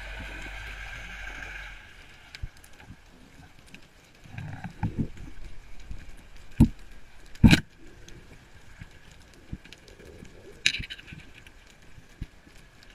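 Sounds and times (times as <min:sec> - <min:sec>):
underwater crackling: 0:00.0 - 0:12.9.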